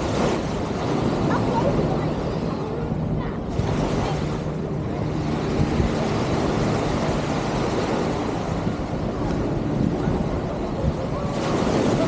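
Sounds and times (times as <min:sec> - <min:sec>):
low motor-like hum: 0:00.0 - 0:12.0
surf washing: 0:00.0 - 0:12.0
wind noise on microphone: 0:00.0 - 0:12.0.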